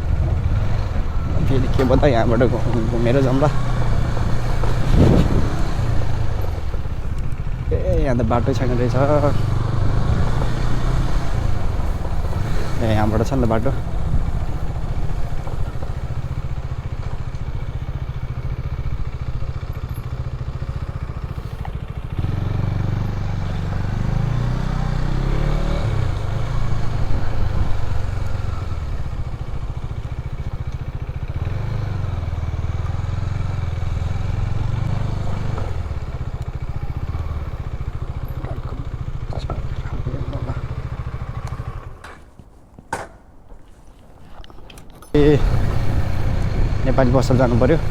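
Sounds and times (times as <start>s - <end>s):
motorcycle engine revving: 0.0s - 42.2s, 45.1s - 47.9s.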